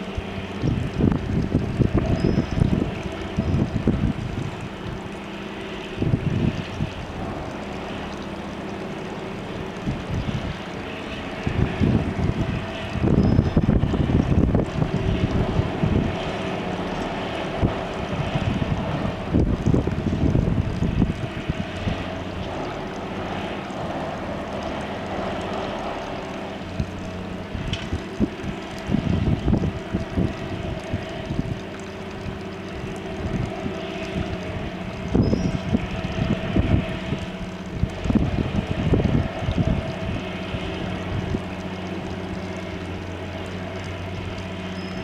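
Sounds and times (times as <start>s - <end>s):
diesel engine humming with rumbling surges: 0.0s - 45.0s.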